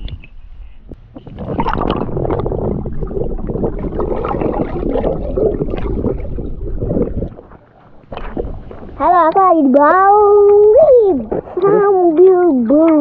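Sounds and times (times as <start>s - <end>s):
muffled water churning underwater: 0.8s - 13.0s.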